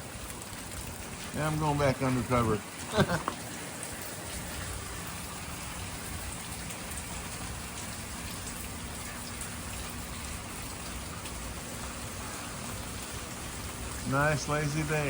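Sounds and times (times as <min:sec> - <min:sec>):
raindrops tapping: 0:00.0 - 0:15.0
steady rain falling: 0:00.0 - 0:15.0.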